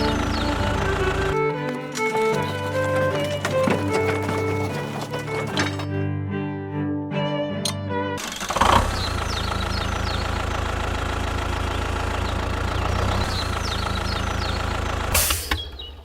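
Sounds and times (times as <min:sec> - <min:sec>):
small engine idling: 0:00.0 - 0:05.9, 0:08.2 - 0:16.0.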